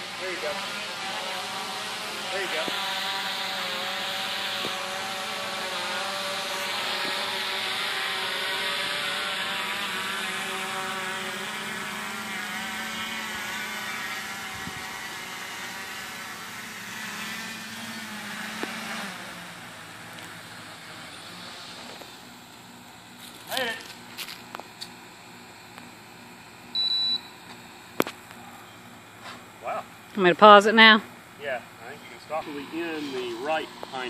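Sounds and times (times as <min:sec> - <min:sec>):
drone propellers buzzing: 0:00.0 - 0:26.7, 0:27.7 - 0:34.0.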